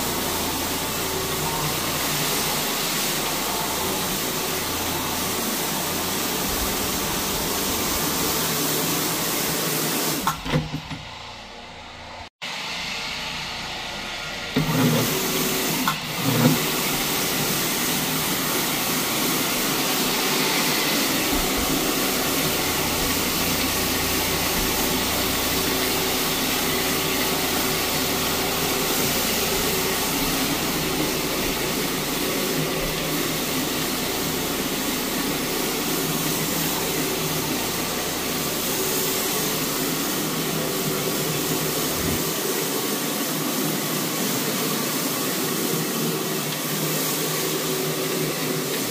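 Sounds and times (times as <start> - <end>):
floor machine motor humming: 0.0 - 48.9.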